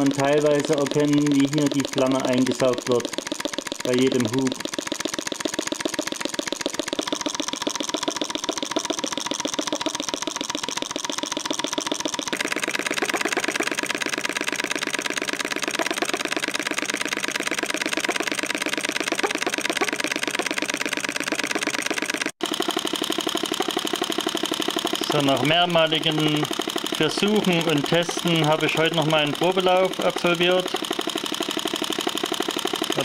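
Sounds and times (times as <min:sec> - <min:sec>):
model engine clattering: 0:00.0 - 0:33.0.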